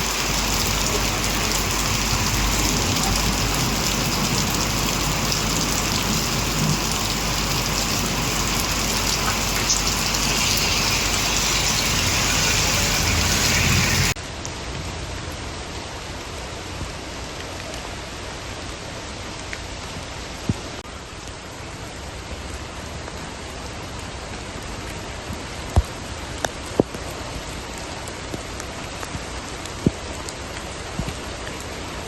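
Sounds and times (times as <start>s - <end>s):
heavy rain: 0.0s - 32.0s.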